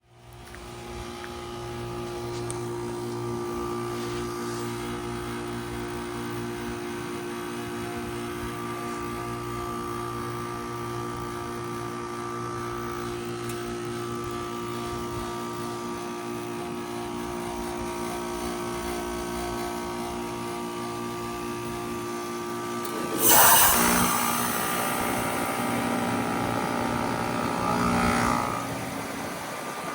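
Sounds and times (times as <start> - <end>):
heat pump mechanical hum: 0.0 - 29.9.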